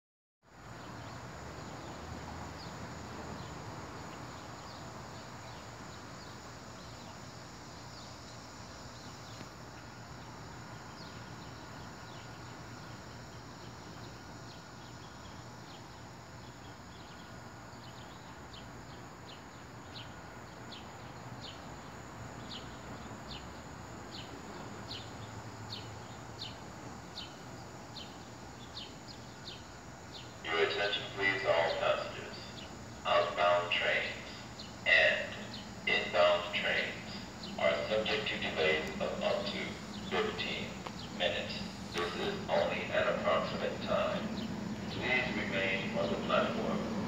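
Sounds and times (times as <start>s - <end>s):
low background hum: 0.5s - 47.0s
birds chirping: 0.7s - 47.0s.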